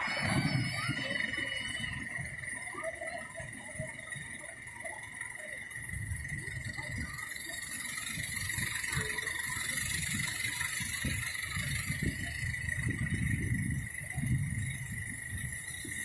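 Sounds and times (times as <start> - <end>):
steady high-pitched tone: 0.0 - 16.0
wheels rumbling on rail: 0.0 - 16.0.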